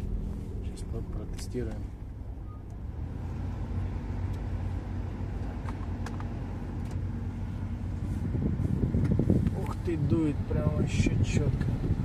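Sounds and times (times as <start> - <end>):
in-cabin car driving noise: 0.0 - 12.0.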